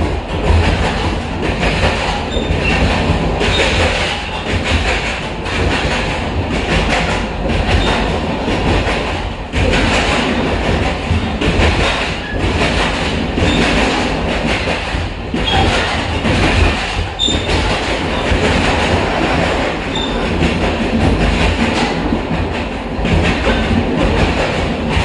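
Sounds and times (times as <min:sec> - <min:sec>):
train wheels rumbling and rattling: 0:00.0 - 0:25.0.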